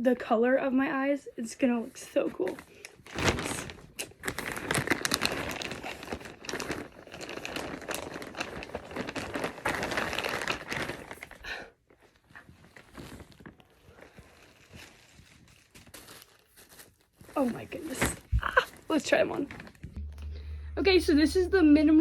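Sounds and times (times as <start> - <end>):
plastic packaging crinkling: 2.2 - 20.0.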